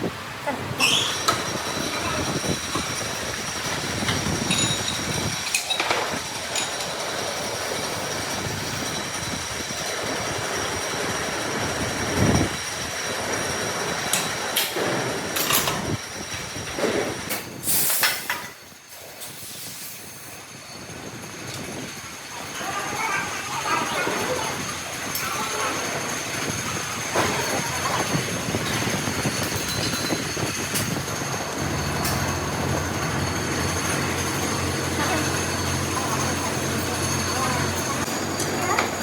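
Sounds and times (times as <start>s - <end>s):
machinery running with high whine: 0.1s - 17.6s, 20.4s - 39.0s.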